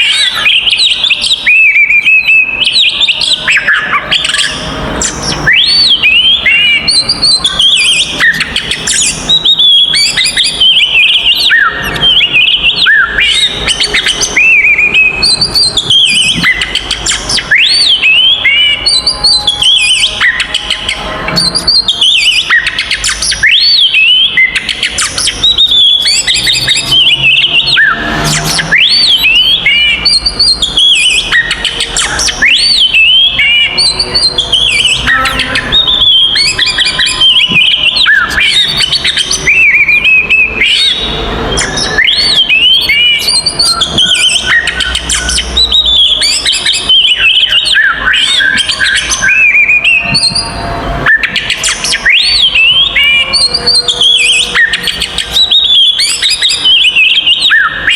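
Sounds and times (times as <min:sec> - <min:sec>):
magpie-robin singing: 0:00.0 - 0:57.9.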